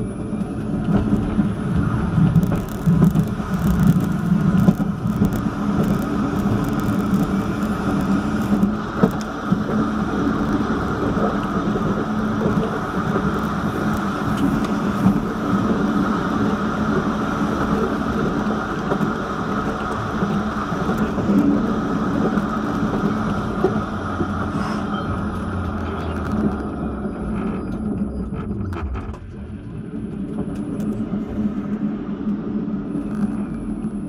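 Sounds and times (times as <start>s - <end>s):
tram drive hum: 0.0s - 34.0s
tram wheels rumbling on rail: 0.0s - 34.0s.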